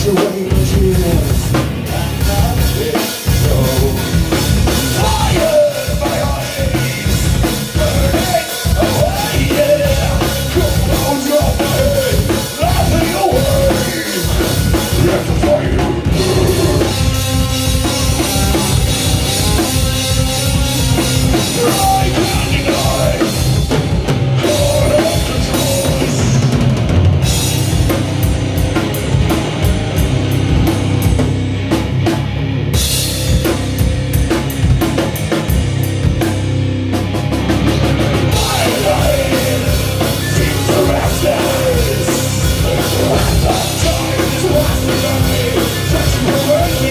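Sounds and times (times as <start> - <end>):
fast drum hits: 0.0 - 31.1, 38.2 - 46.9
distorted electric guitars: 0.0 - 46.9.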